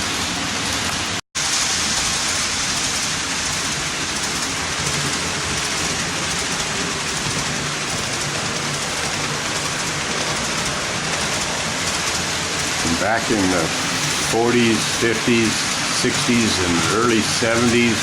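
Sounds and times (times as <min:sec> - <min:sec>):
model train running on track: 0:00.0 - 0:18.0.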